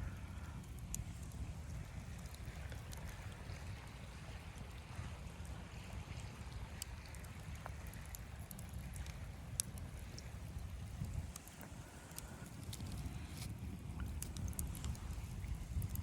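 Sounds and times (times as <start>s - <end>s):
faint ticks: 0.0s - 3.6s, 6.1s - 16.0s
blizzard wind with low rumble: 0.0s - 16.0s.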